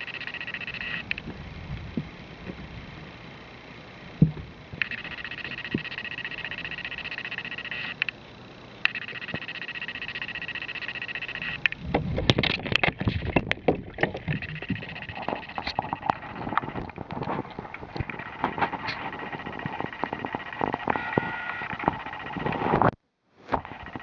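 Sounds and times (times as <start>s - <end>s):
high-pitched whine: 0.0s - 23.0s, 23.6s - 24.0s.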